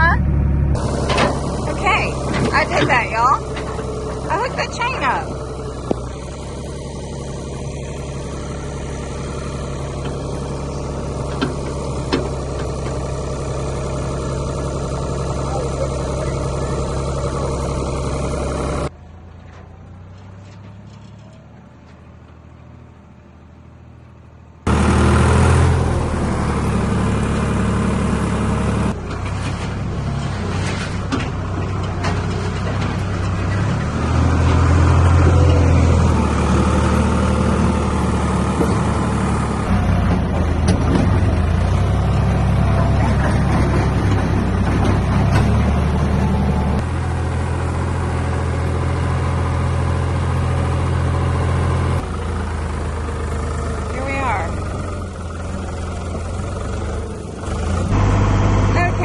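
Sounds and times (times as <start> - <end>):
backhoe engine under load: 0.0 - 59.0.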